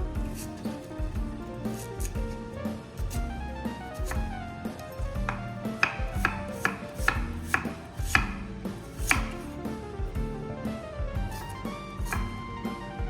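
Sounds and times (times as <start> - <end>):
background music: 0.0 - 13.0
knife chopping on cutting board: 0.2 - 10.3, 11.3 - 12.4.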